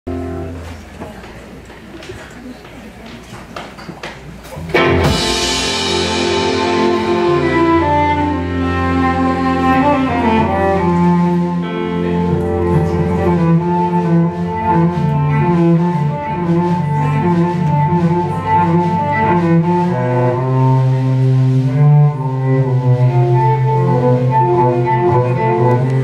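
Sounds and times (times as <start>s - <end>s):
bass guitar: 0.1s - 0.9s, 4.5s - 26.0s
electric guitar: 4.6s - 26.0s
bowed cello: 4.7s - 26.0s.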